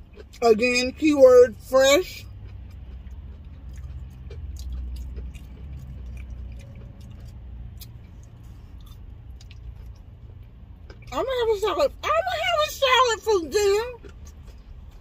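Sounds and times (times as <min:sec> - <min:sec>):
person chewing: 0:00.0 - 0:11.1, 0:13.7 - 0:15.0
steady low rumble: 0:00.0 - 0:15.0.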